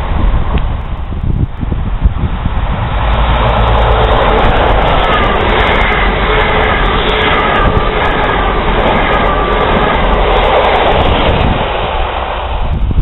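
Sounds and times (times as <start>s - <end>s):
train wheels rushing on rails: 0.0s - 13.0s
diesel engine passing: 1.7s - 13.0s.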